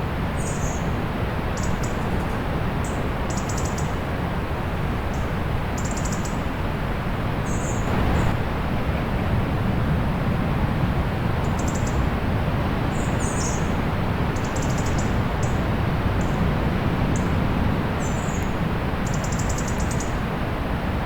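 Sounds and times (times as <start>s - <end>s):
sea rushing with low rumble: 3.9s - 21.0s.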